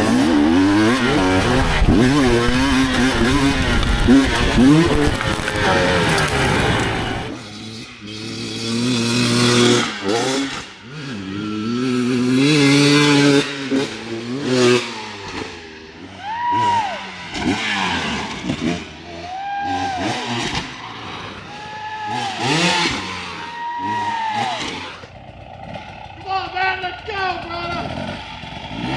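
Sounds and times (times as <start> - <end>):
dirt bike engines revving: 0.0 - 28.9.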